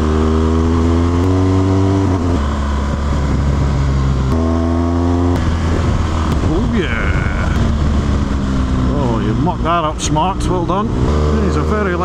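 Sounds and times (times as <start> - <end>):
motorcycle engine at steady revs: 0.0 - 12.0.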